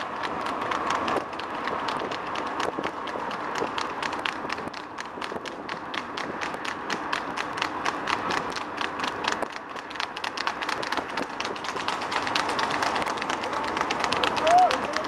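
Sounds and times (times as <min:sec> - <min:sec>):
horse hooves trotting on tarmac: 0:00.0 - 0:15.0
road traffic rumble: 0:00.0 - 0:15.0.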